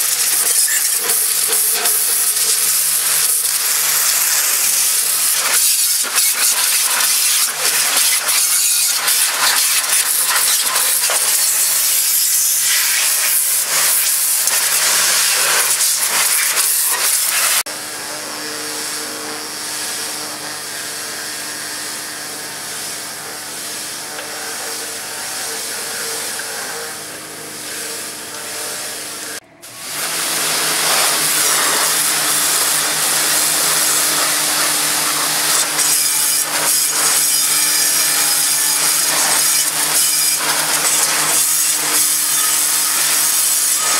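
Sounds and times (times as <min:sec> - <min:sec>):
pressure washer jet hissing: 0:00.0 - 0:43.9.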